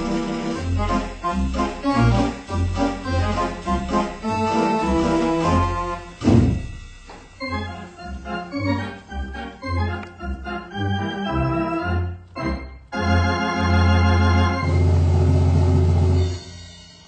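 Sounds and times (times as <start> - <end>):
theatre organ playing: 0.0 - 16.5.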